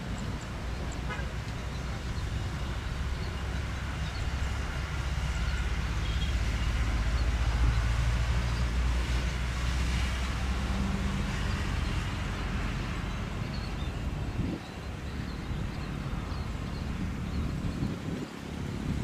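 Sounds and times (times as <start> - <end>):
jet airliner engine rumble: 0.0 - 19.0.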